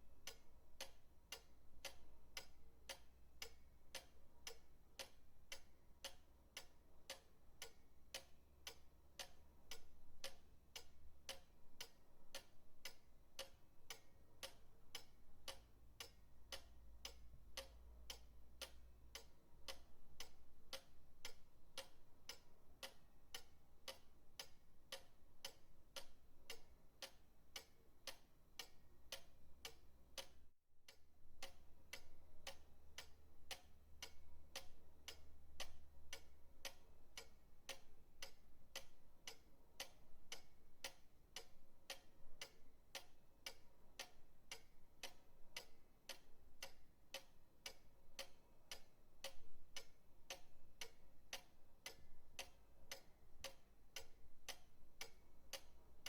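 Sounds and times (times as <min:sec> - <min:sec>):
pendulum clock ticking: 0:00.0 - 0:56.0.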